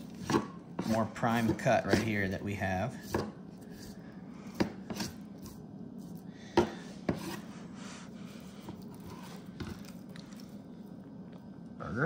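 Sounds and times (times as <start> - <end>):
knife scraping through meat: 0.0 - 10.5.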